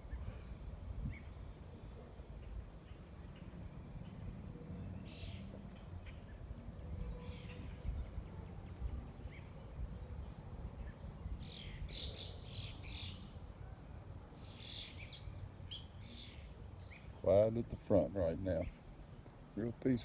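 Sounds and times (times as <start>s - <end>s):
small birds chirping: 0.0s - 10.0s, 10.7s - 13.6s, 14.3s - 20.0s.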